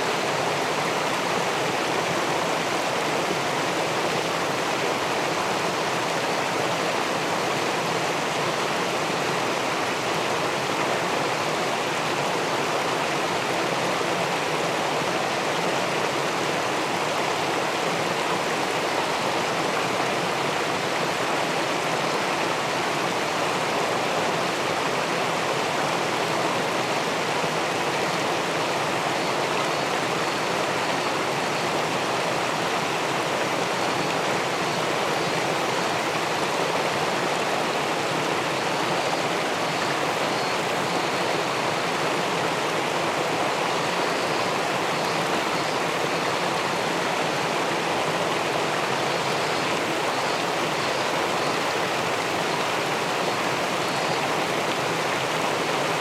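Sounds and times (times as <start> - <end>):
river water rushing over a weir: 0.0 - 56.0.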